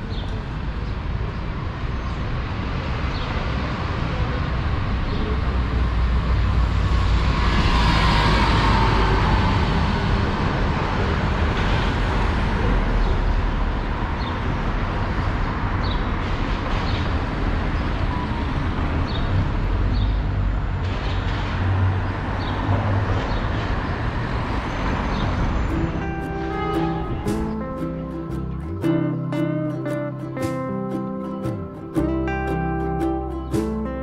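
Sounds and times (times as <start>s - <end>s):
low traffic rumble: 0.0s - 34.0s
vehicles passing: 0.0s - 34.0s.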